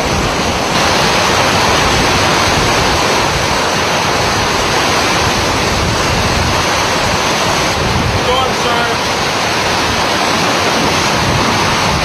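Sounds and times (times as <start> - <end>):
driving rain: 0.0 - 12.0
hurricane wind: 0.0 - 12.0.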